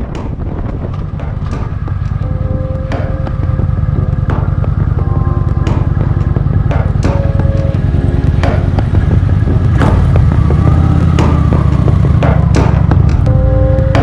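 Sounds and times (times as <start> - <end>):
motorcycle engine: 0.0 - 14.0
wind rumbling: 0.0 - 14.0
music with a beat: 0.1 - 14.0.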